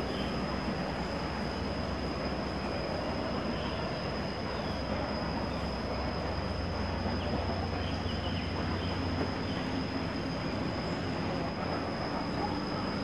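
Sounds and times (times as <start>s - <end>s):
thin high-pitched whine: 0.0s - 13.0s.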